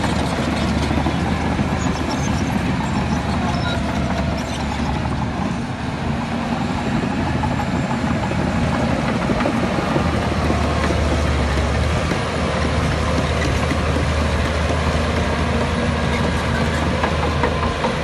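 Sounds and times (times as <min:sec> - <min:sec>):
diesel machinery engine rumble: 0:00.0 - 0:18.0.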